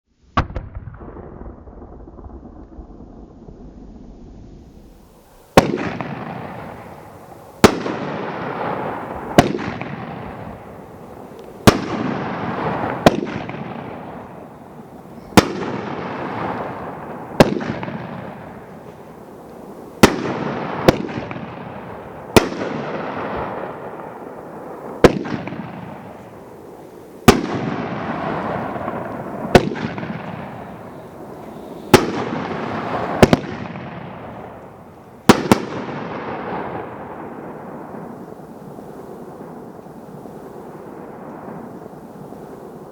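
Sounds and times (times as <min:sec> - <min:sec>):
firework bangs with hissing tails: 0:00.3 - 0:42.9
faint steady hiss: 0:03.3 - 0:42.9.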